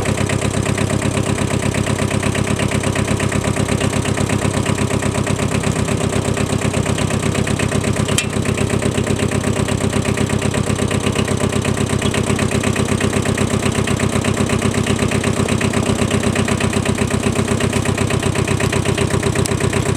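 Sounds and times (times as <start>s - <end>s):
diesel tractor engine running: 0.0s - 19.9s.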